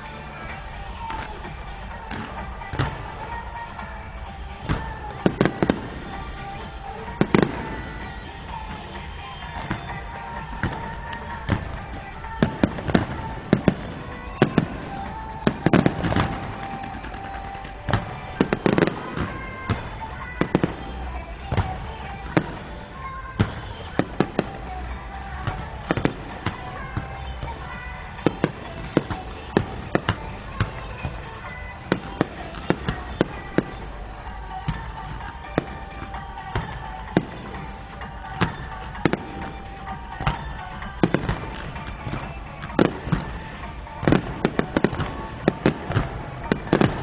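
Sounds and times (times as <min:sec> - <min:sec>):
fireworks bangs: 0:00.0 - 0:47.0
music with sustained tones: 0:00.0 - 0:47.0.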